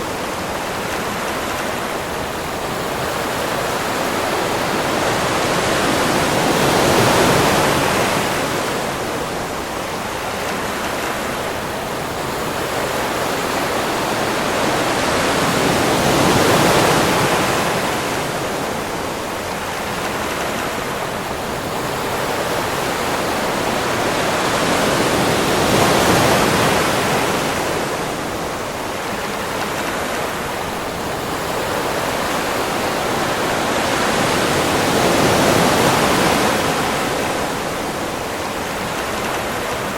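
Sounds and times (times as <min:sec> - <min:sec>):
sea waves washing onto beach: 0:00.0 - 0:39.9.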